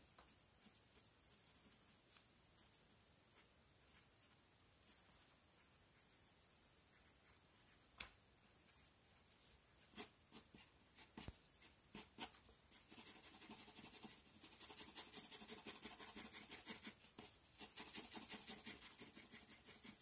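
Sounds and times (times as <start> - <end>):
pencil scratching on paper: 0.2 - 6.2, 9.8 - 20.0.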